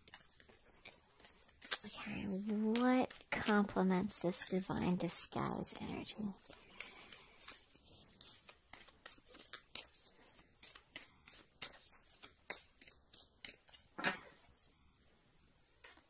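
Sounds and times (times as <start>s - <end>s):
cards being shuffled: 0.0s - 4.6s, 5.9s - 14.5s, 15.8s - 16.0s.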